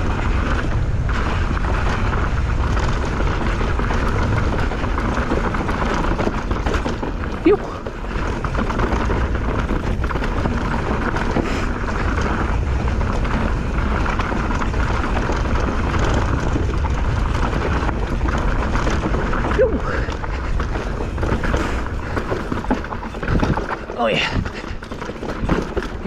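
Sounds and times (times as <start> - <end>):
mountain bike rumbling and rattling: 0.0 - 26.0
wind noise on microphone: 0.0 - 26.0.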